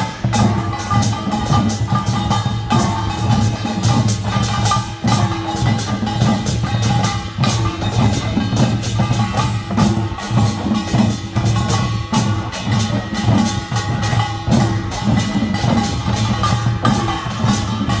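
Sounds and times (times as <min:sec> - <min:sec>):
percussion band playing fast rhythm: 0:00.0 - 0:18.0.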